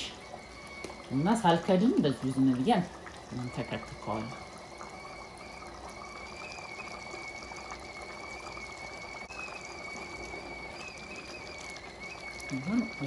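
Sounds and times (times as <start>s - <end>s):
kettle whistling: 0.0s - 13.0s
stew bubbling in pot: 0.0s - 13.0s.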